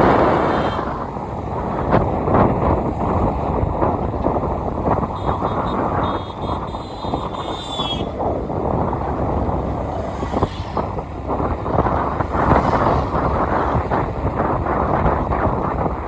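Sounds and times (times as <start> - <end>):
road and vehicle noise: 0.0 - 16.0
wind buffeting microphone: 0.0 - 16.0.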